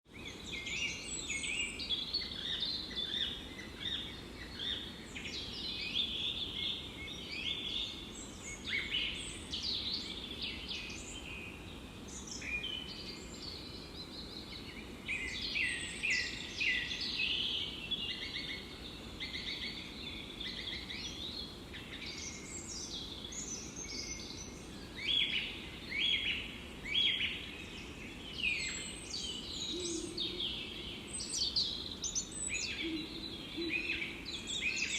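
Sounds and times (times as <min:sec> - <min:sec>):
birds singing and chirping: 0:00.1 - 0:34.9
low background hiss: 0:00.1 - 0:34.9.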